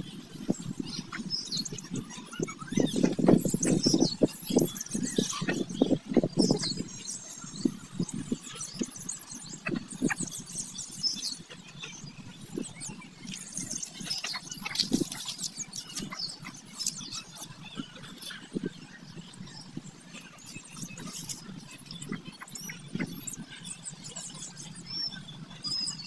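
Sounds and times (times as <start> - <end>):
small birds chirping: 0.0 - 26.0
chickens clucking rapidly: 0.4 - 24.6.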